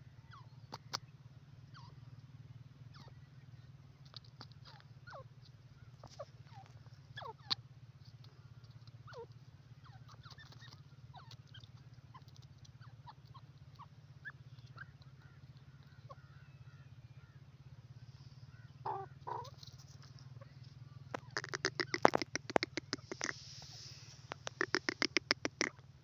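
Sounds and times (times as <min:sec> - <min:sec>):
faint low hum: 0:00.0 - 0:26.0
bird giving soft peeps: 0:00.2 - 0:01.1, 0:01.7 - 0:02.1, 0:02.9 - 0:03.3, 0:04.0 - 0:25.9.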